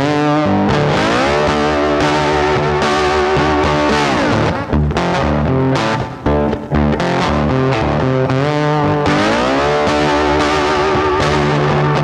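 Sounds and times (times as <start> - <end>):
distorted electric guitar: 0.0 - 12.0.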